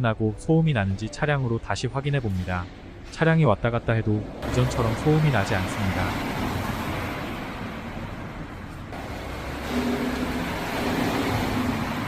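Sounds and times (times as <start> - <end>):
car engine driving slowly: 2.1 - 12.0.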